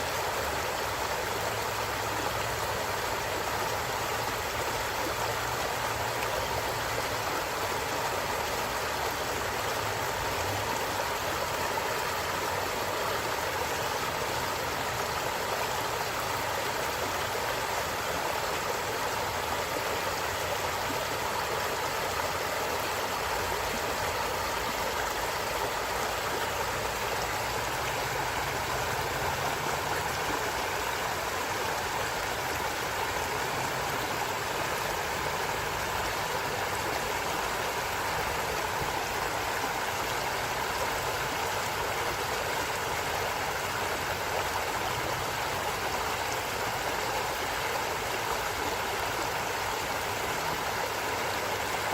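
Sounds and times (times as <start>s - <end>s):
stream water rushing and babbling: 0.0s - 51.9s.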